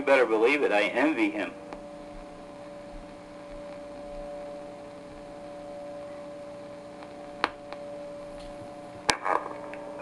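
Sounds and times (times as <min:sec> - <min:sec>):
radio hum: 0:00.0 - 0:10.0.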